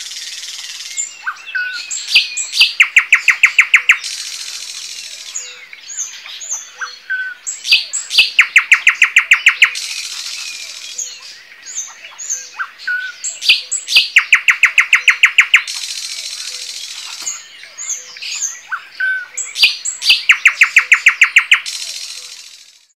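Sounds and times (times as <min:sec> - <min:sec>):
birds chirping: 0:00.0 - 0:22.9
buzzy bird trill: 0:00.4 - 0:05.6, 0:07.2 - 0:11.2, 0:11.8 - 0:22.9.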